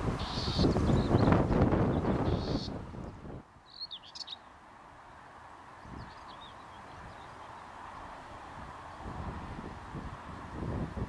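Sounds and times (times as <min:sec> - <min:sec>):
songbird chirping: 0:00.0 - 0:09.1
steady background hiss: 0:00.0 - 0:11.0.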